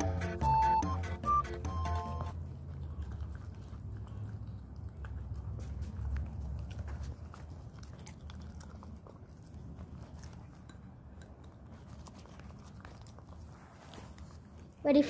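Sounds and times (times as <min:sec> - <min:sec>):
tongue and teeth clicking on bowl: 0:00.0 - 0:13.6
dog licking and chewing: 0:00.0 - 0:15.0.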